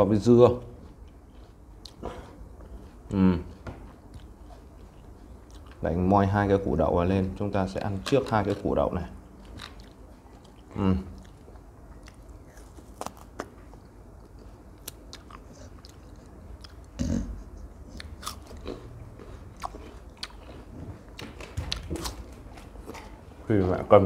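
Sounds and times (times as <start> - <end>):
crunchy chewing: 0.2 - 6.2, 7.7 - 23.3.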